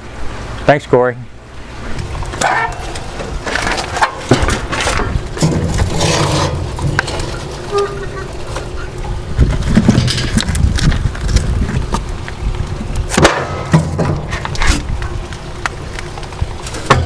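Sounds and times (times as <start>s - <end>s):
wind rumble on microphone: 1.7s - 17.0s.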